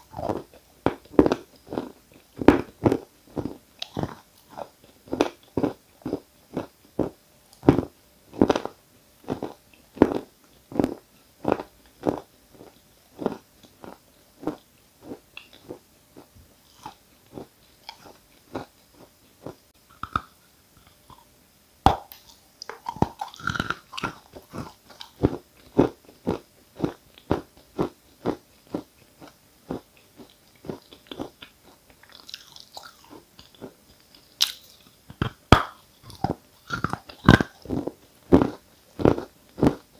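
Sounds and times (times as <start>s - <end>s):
crunchy chewing: 0.0s - 21.3s, 21.9s - 39.9s.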